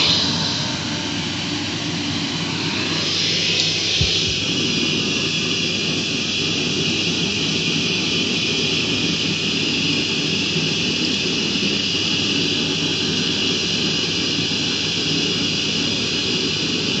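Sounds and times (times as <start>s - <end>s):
electric dog brush running: 0.0s - 17.0s.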